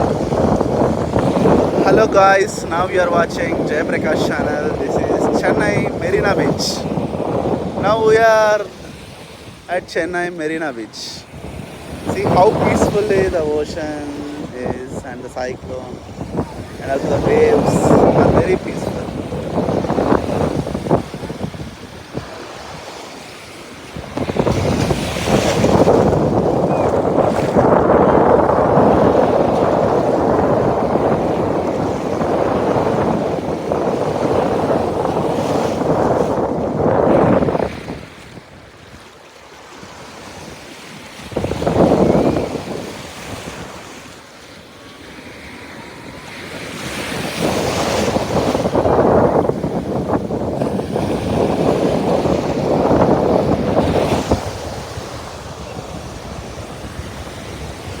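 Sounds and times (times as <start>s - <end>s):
sea surf washing ashore: 0.0s - 58.0s
wind buffeting microphone: 0.0s - 58.0s.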